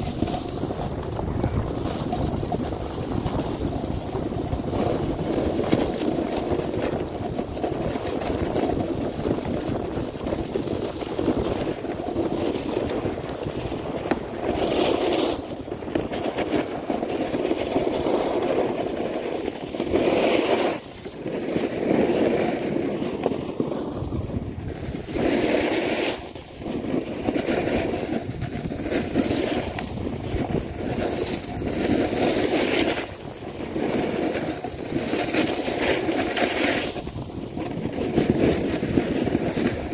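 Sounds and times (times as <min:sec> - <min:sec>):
snowboard scraping over snow: 0:00.0 - 0:39.9
wind on microphone: 0:00.0 - 0:39.9.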